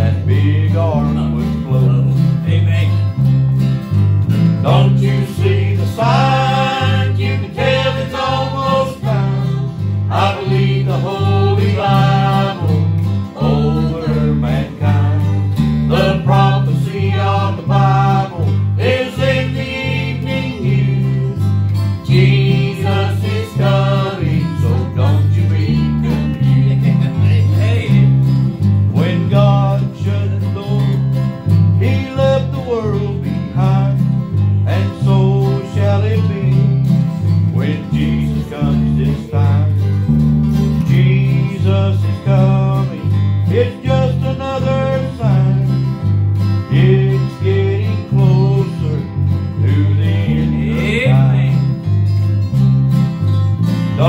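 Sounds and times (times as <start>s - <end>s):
electric bass line: 0.0s - 54.0s
plucked guitar melody: 0.0s - 54.0s.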